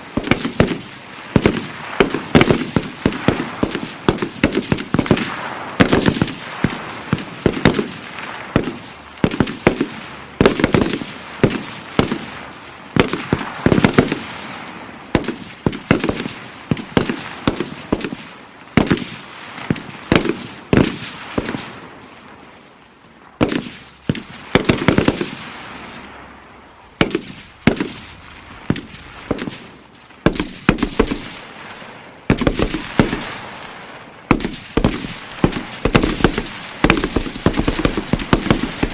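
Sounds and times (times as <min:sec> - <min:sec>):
rifle gunshots with echo: 0:00.0 - 0:22.2, 0:23.4 - 0:26.2, 0:27.0 - 0:38.9.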